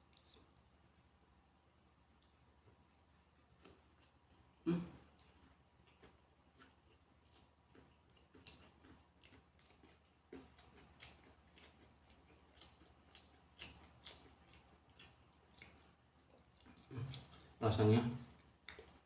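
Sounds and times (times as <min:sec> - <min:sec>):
chewing food: 0:00.0 - 0:00.7, 0:02.1 - 0:19.0.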